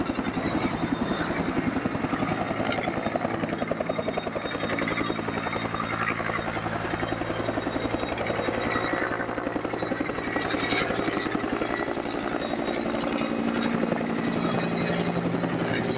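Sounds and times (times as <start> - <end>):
helicopter engine whine: 0.0 - 15.9
helicopter rotor beating: 0.0 - 15.9.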